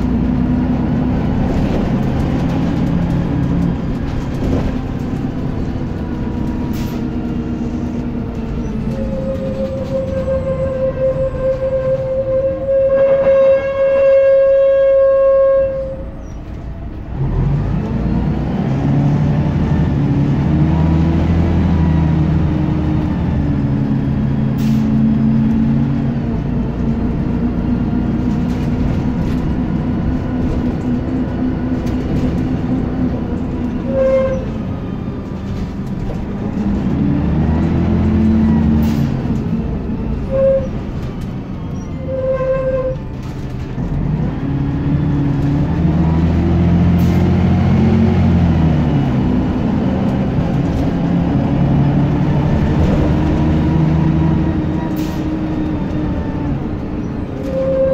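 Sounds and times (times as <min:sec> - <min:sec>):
bus engine: 0:00.0 - 0:57.9.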